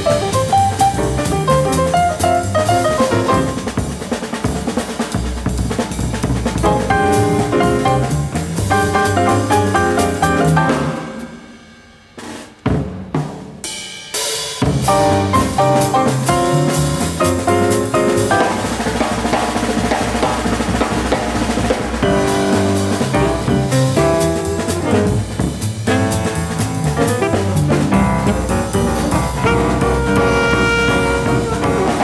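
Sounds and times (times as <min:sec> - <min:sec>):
piano chords: 0:00.0 - 0:04.2, 0:06.4 - 0:11.8, 0:14.8 - 0:21.2, 0:21.8 - 0:32.0
busy jazz drumming: 0:00.0 - 0:32.0.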